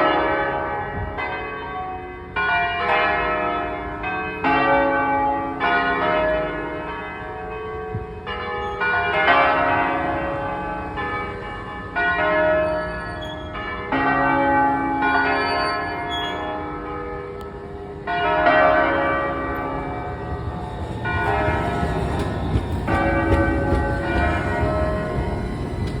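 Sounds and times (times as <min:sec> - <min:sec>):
church bells pealing: 0:00.0 - 0:26.0.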